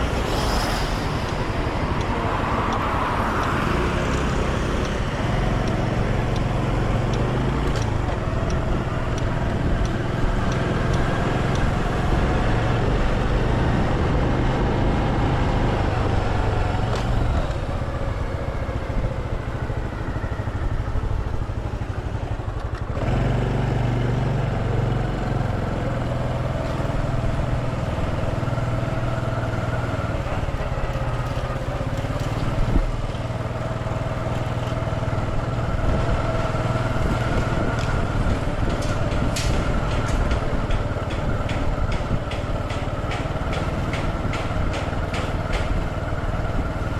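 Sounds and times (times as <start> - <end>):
road noise rush: 0.0 - 46.9.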